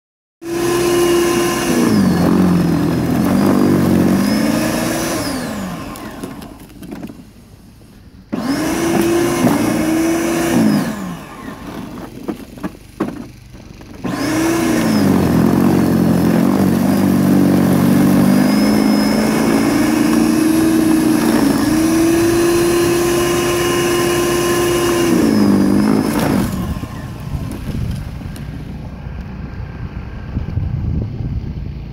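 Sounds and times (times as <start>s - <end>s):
electric snow blower motor whining: 0.4s - 30.6s.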